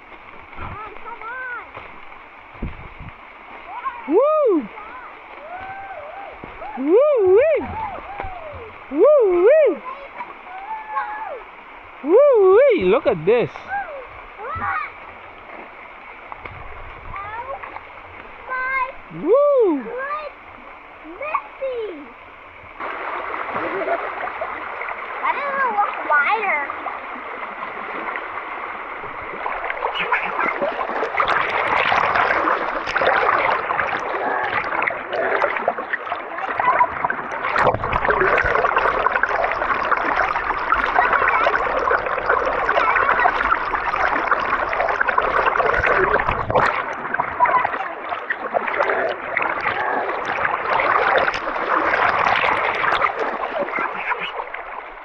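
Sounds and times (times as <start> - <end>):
forest stream rushing and splashing: 0.0 - 55.0.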